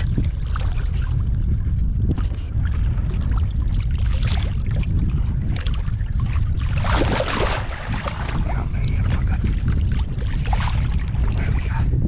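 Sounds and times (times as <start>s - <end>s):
waves slapping against boat hull: 0.0s - 12.0s
wind noise on microphone: 0.0s - 12.0s.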